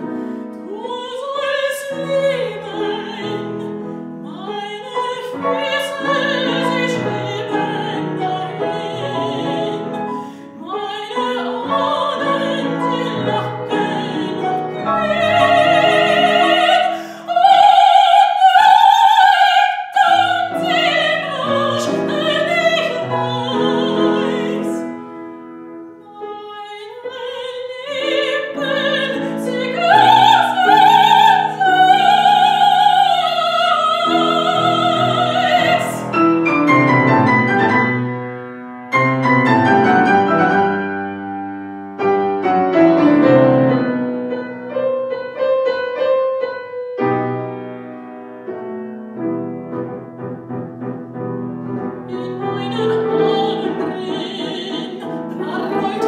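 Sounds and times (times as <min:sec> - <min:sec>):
soprano singing aria: 0:00.0 - 0:38.1, 0:48.4 - 0:56.0
grand piano: 0:00.0 - 0:56.0.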